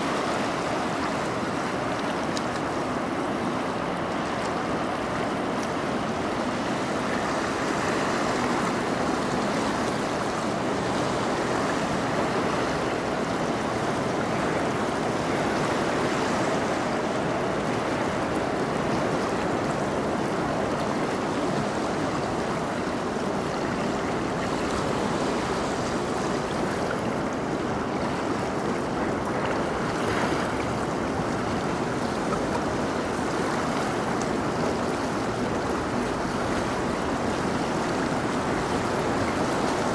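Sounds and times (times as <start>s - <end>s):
rush of moving water: 0.0s - 39.9s.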